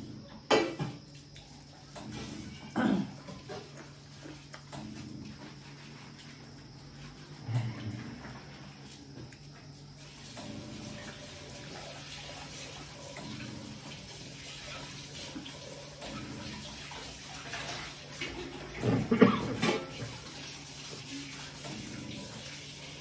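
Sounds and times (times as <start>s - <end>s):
tap water running: 0.0s - 23.0s.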